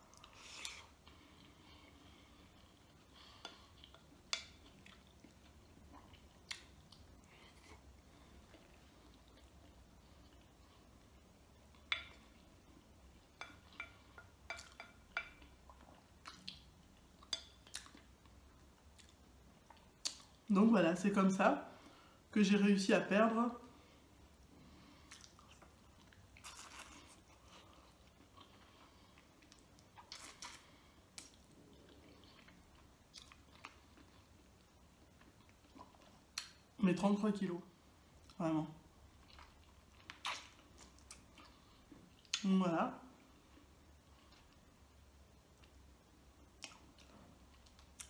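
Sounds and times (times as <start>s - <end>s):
person chewing food: 0.0s - 20.4s, 23.9s - 36.7s, 39.0s - 42.4s, 45.4s - 48.0s.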